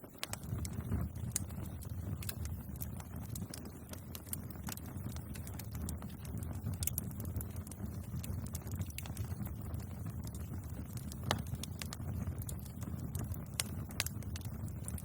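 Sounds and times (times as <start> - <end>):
burning wood popping and snapping: 0.0 - 15.0
low rumble of flames: 0.0 - 15.0.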